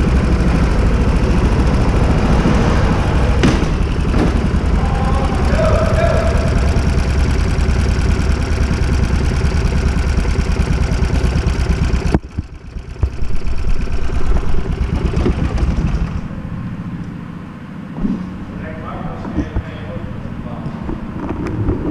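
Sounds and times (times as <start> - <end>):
go-kart engine running hard: 0.0 - 21.9.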